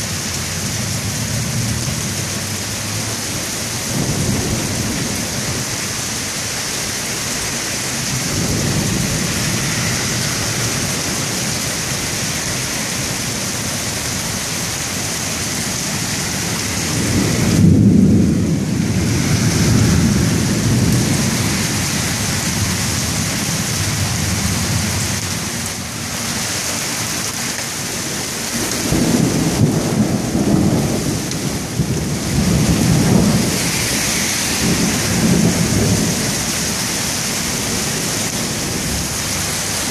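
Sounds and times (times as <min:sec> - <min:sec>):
heavy rain pouring: 0:00.0 - 0:39.9
thunder rumbling: 0:02.9 - 0:26.0, 0:27.8 - 0:39.9.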